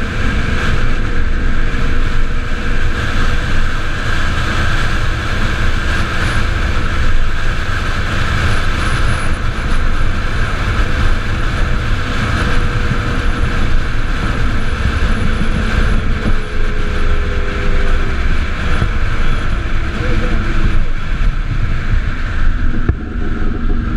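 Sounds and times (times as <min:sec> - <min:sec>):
tyre and road rumble: 0:00.0 - 0:23.9
wind rushing: 0:00.0 - 0:23.9.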